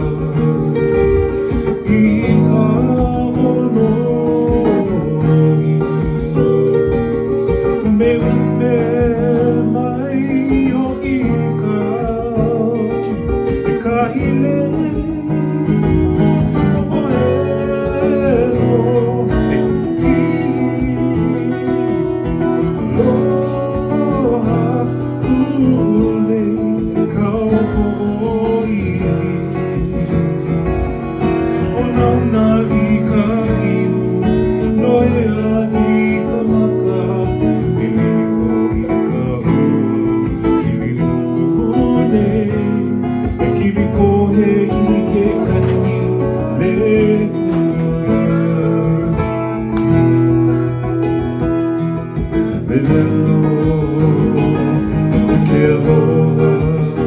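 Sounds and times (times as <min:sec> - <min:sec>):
person singing: 0:00.0 - 0:30.1, 0:31.4 - 0:57.0.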